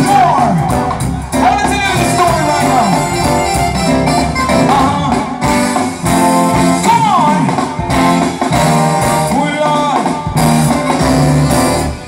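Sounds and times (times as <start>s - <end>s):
bass: 0.0s - 12.0s
drums: 0.0s - 12.0s.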